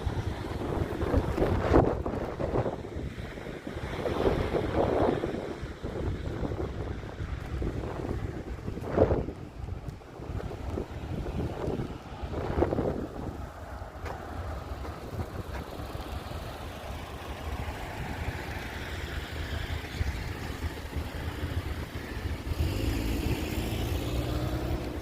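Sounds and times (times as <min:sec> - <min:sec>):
low engine rumble: 0:00.0 - 0:25.0
nearby vehicle engine hum: 0:00.0 - 0:25.0.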